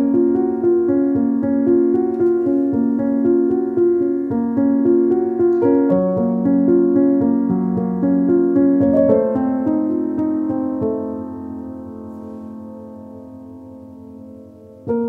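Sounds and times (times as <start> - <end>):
calm piano music: 0.0 - 15.0.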